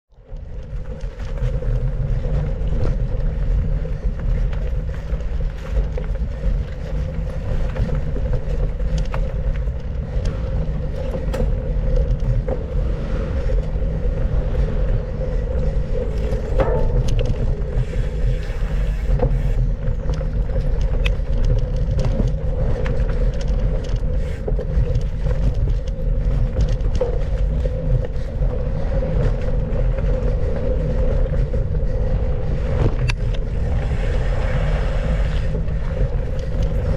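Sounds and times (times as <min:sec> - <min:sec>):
wind rumble on microphone: 0:00.1 - 0:36.9
bike rattles and knocks: 0:00.2 - 0:36.9.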